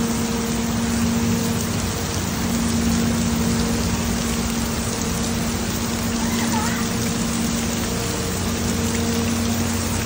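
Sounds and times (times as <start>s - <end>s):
low hum: 0.0s - 10.0s
rain on cobblestone street: 0.0s - 10.0s.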